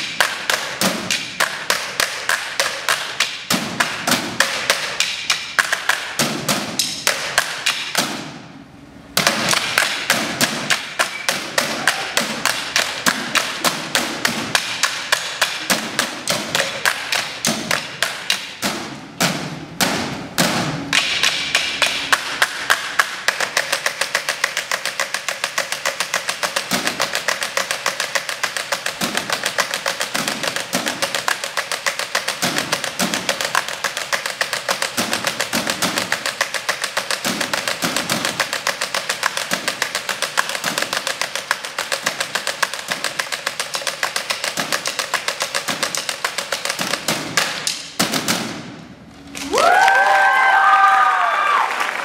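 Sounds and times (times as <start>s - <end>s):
drumsticks beating on chairs: 0.0s - 8.4s, 9.2s - 48.8s.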